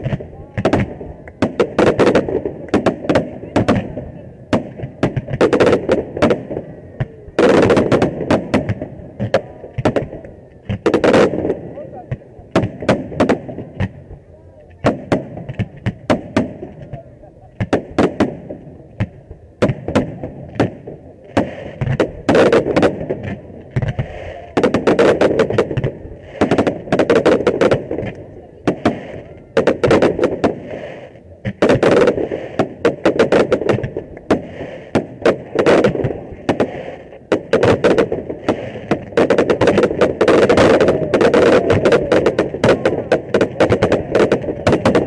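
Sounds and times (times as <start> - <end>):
fireworks bursting: 0.0 - 45.0.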